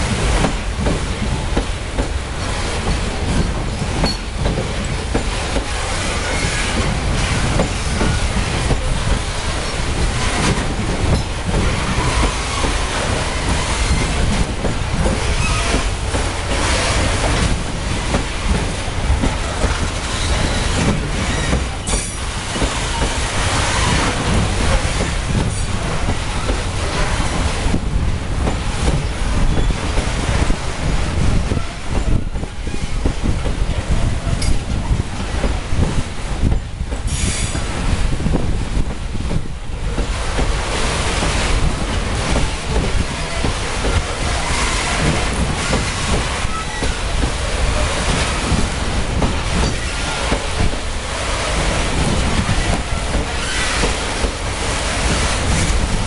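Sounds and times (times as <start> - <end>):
train wheels clacking over joints: 0.0 - 56.0.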